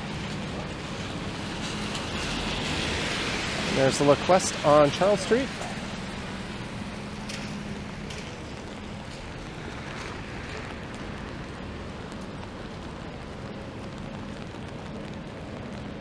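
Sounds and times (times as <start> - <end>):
falling rain hiss: 0.0 - 16.0
low vehicle engine hum: 0.0 - 16.0
traffic on wet pavement: 0.0 - 16.0.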